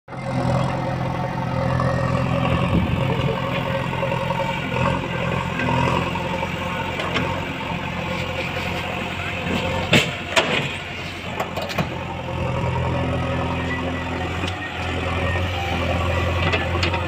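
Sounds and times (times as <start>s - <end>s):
backhoe diesel engine running: 0.1s - 17.0s.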